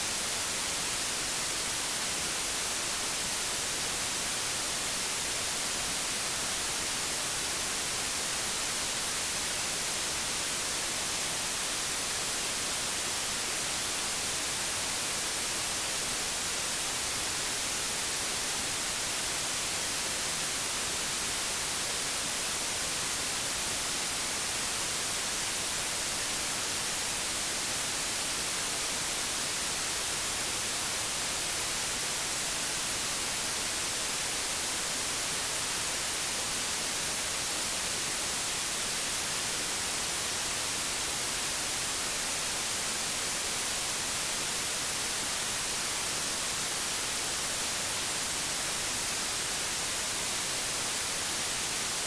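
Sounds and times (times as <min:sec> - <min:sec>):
television static hiss: 0:00.0 - 0:52.0.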